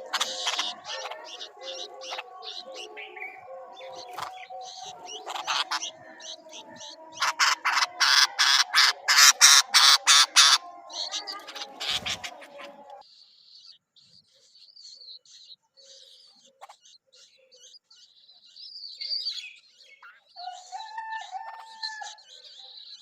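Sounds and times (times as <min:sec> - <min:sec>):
bird chicks chirping: 0:00.0 - 0:23.0.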